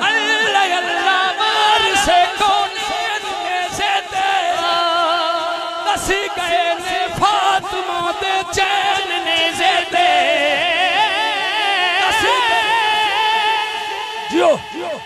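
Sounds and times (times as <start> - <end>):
backing vocalist singing: 0.0 - 15.0.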